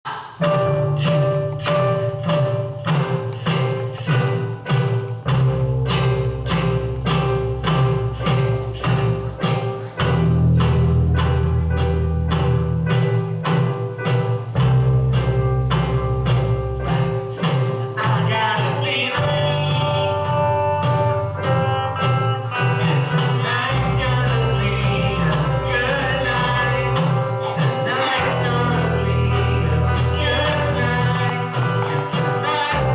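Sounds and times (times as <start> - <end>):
amplified singing: 0.0 - 10.8, 16.9 - 32.9
live band playing: 0.0 - 32.9
bass guitar low notes: 0.6 - 18.4, 19.2 - 32.9.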